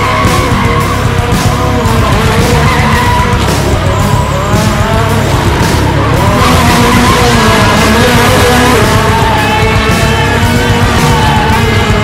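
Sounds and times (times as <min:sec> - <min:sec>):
car engine revving: 0:00.0 - 0:12.0
music: 0:00.0 - 0:12.0
tyres squealing and skidding: 0:00.0 - 0:12.0.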